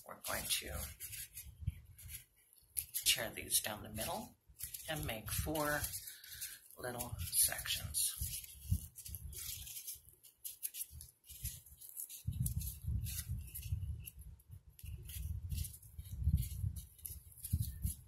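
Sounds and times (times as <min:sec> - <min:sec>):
cardboard tearing and crackling: 0:00.0 - 0:18.0.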